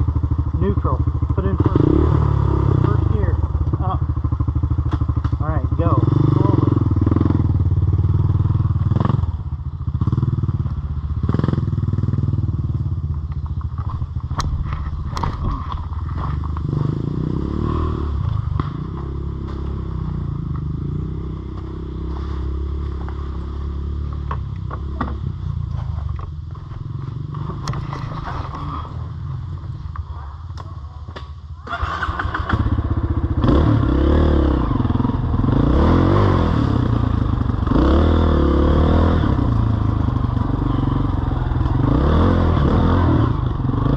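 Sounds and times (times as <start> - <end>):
off-road vehicle engine revving: 0.0 - 9.4, 10.0 - 12.5, 14.4 - 26.0, 31.6 - 43.9.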